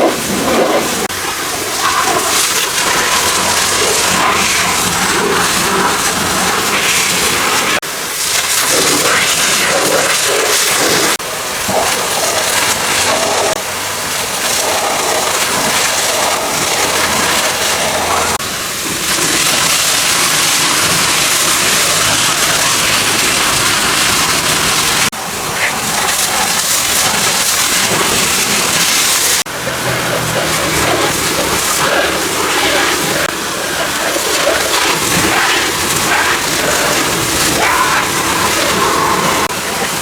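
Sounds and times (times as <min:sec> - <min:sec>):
water spray hitting car: 0:00.0 - 0:40.0.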